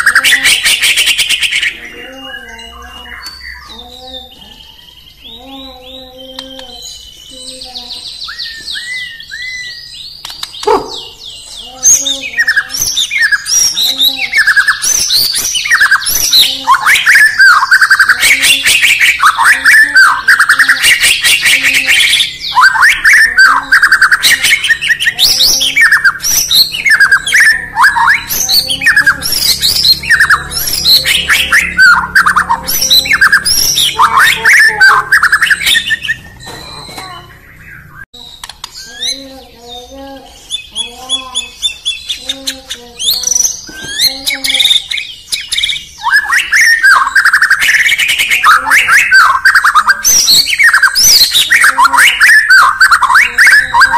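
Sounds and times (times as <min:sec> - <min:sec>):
bird singing whistles and chatter: 0:00.0 - 0:53.9.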